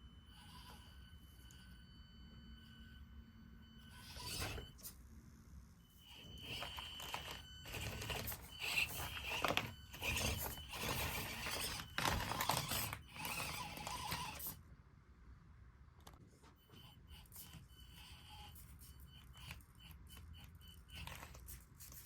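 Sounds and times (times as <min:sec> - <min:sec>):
small electric motor whining: 0:00.0 - 0:05.0, 0:05.8 - 0:14.6, 0:16.6 - 0:22.0.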